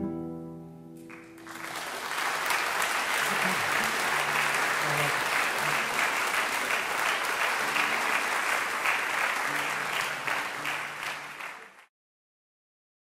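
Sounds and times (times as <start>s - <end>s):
audience applauding: 1.0s - 11.9s.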